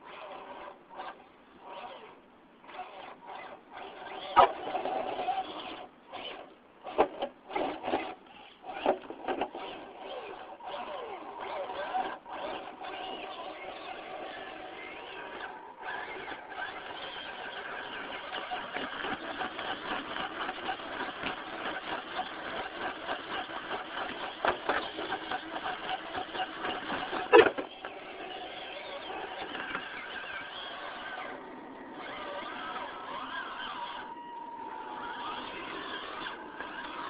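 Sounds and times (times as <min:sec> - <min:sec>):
toy car motor whining: 0:00.0 - 0:37.0.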